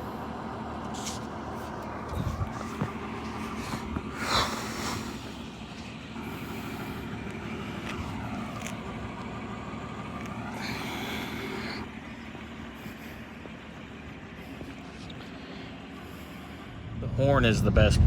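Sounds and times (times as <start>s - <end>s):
car engine droning: 0.0s - 18.0s
road noise: 0.0s - 18.0s.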